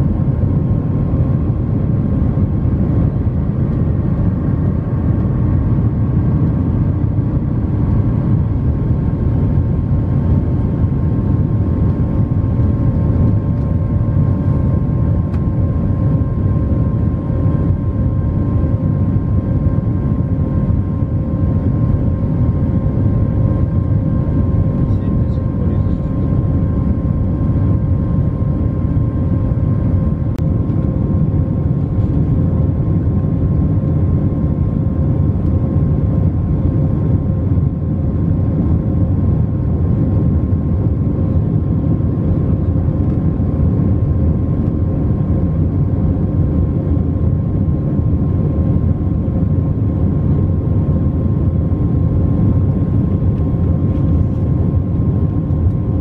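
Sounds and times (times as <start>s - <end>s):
jet engines and airflow drone: 0.0s - 56.0s.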